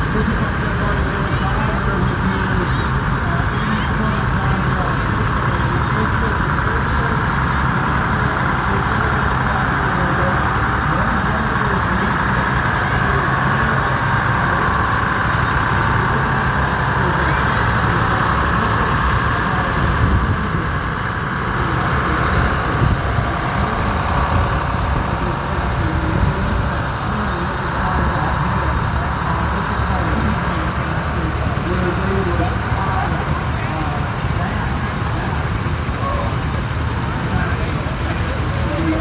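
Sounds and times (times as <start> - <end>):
tractor engines running: 0.0 - 39.0.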